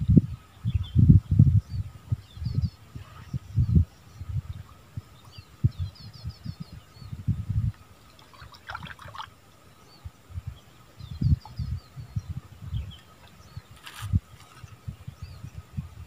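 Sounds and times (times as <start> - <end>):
small birds chirping: 0.0 - 16.0
wind buffeting microphone: 0.0 - 16.0.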